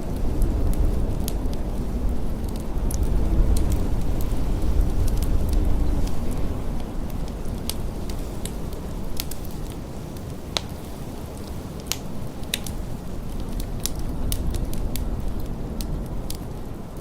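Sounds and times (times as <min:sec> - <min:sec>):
blizzard wind rumble: 0:00.0 - 0:17.0
wood fire crackling and popping: 0:00.0 - 0:17.0.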